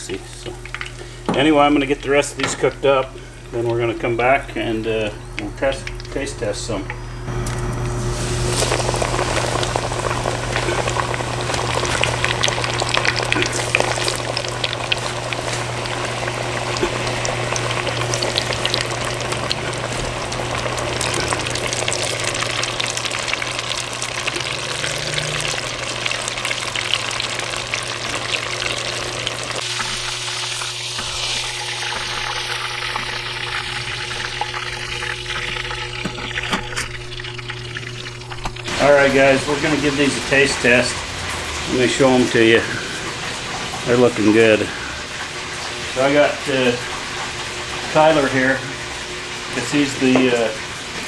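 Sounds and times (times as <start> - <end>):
chicken deep-frying in oil: 0.0 - 51.0.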